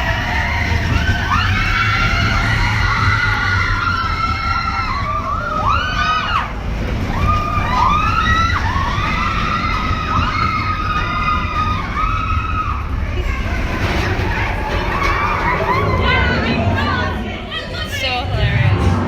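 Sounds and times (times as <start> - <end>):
riders screaming: 0.0 - 17.5
coaster train rumbling: 0.0 - 19.0.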